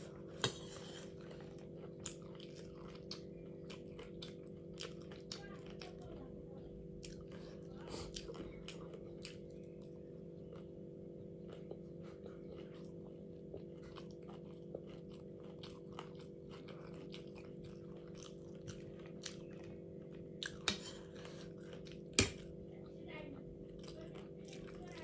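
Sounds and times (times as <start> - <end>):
person chewing crunchy food: 0.0 - 6.0, 7.0 - 22.6, 23.7 - 25.0.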